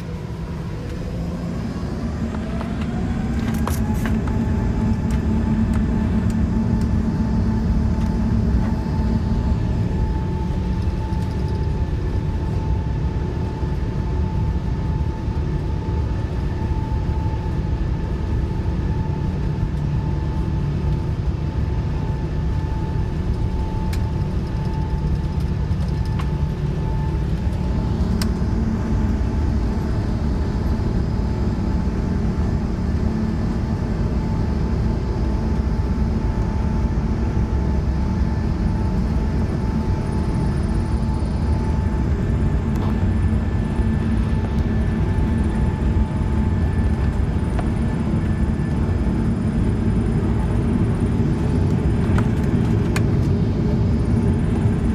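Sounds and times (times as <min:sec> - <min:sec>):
jet engine whine: 0:00.0 - 0:54.9
jet engines rumbling in cabin: 0:00.0 - 0:54.9.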